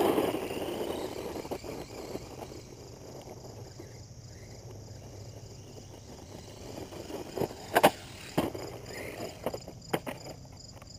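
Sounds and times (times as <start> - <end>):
insects trilling: 0.0 - 10.9.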